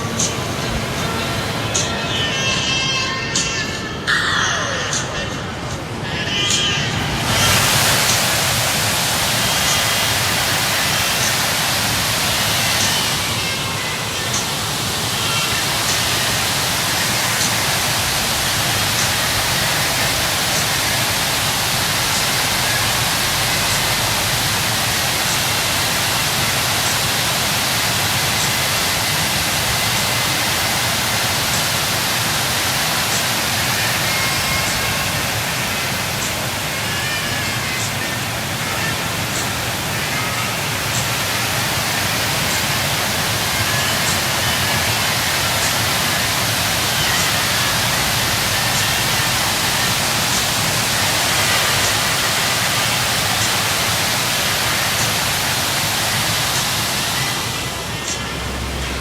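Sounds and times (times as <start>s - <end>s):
snowstorm wind hissing: 0.0s - 59.0s.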